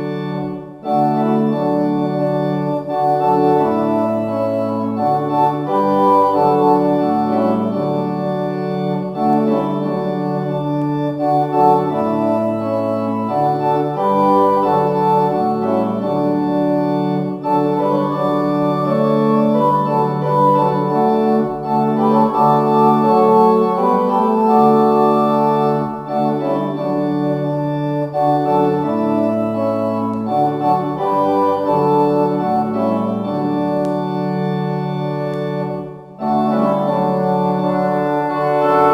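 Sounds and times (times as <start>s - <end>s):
organ playing sustained chords: 0.0s - 38.9s.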